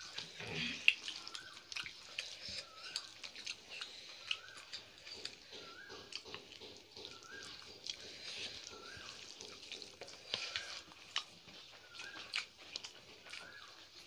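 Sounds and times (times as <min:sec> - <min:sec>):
fingers squishing rice and curry: 0:00.0 - 0:14.0.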